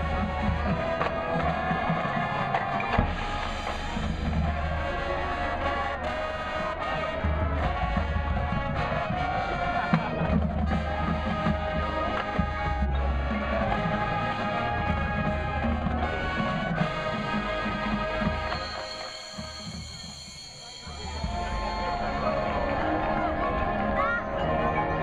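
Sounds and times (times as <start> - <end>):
bass drums: 0.0 - 18.8, 21.0 - 23.2
marching band brass: 0.0 - 25.0.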